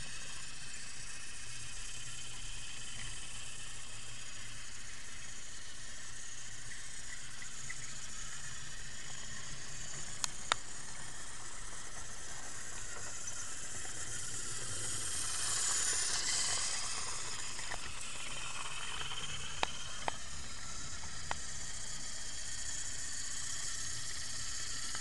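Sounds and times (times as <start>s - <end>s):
toy train motor whirring: 0.0s - 25.0s.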